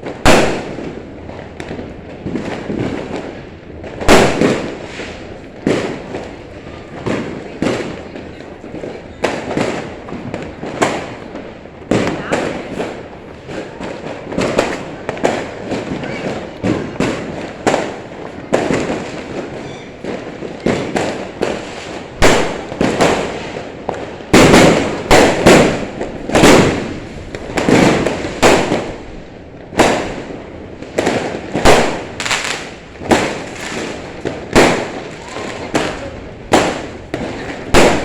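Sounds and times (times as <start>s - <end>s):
fireworks bangs: 0.0s - 38.0s.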